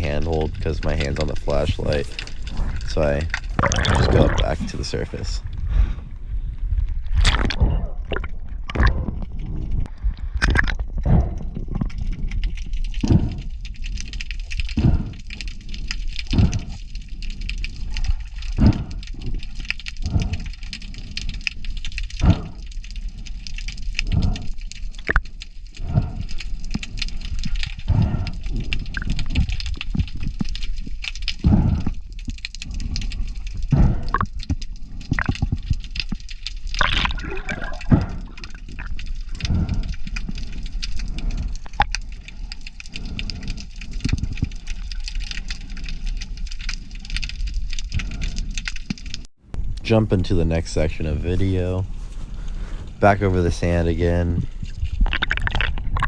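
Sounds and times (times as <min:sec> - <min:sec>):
sharp crackling clicks: 0:00.0 - 0:05.5, 0:06.8 - 0:49.9, 0:53.4 - 0:56.0
low underwater croaks: 0:00.0 - 0:05.6, 0:06.7 - 0:49.2, 0:54.4 - 0:56.0.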